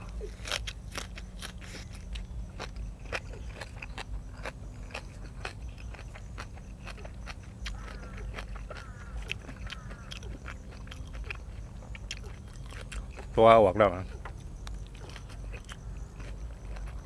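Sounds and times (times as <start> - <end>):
mouth chewing crunchy food: 0.0 - 17.0.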